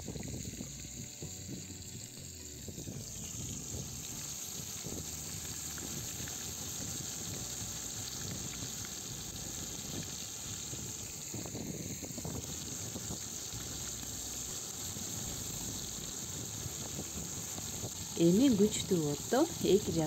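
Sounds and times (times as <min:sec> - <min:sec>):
fish frying in sizzling oil: 0:00.0 - 0:20.0.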